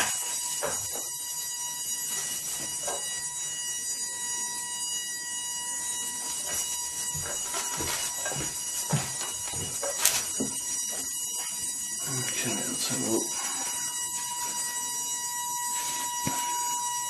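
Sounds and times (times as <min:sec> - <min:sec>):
cnc router whine: 0:00.0 - 0:17.0.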